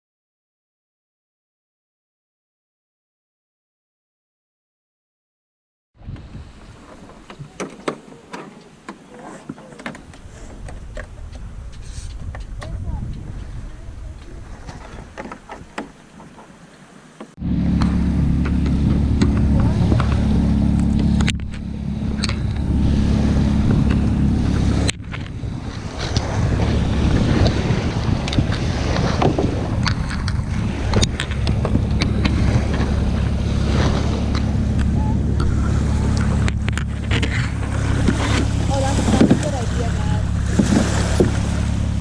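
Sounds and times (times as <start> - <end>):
wind buffeting microphone: 6.0 - 8.9, 9.8 - 16.7, 17.4 - 42.0
water splashing around kayak: 6.0 - 42.0.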